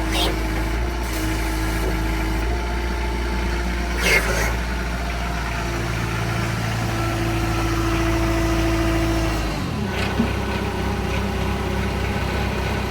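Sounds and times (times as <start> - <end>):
forklift engine running: 0.0 - 12.9.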